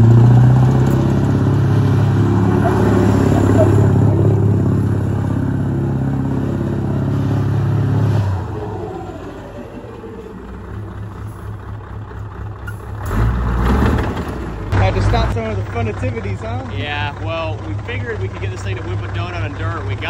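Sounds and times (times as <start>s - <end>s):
truck diesel engine revving: 0.0s - 20.0s.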